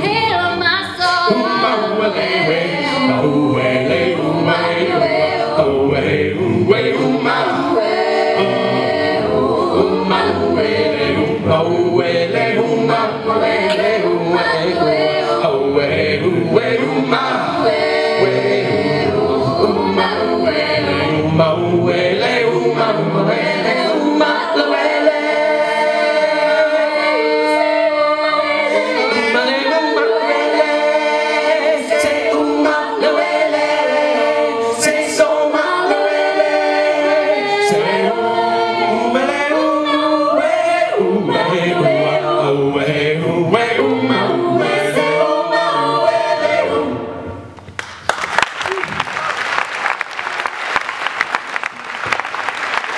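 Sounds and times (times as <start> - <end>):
mixed choir singing through pa: 0.0 - 47.5.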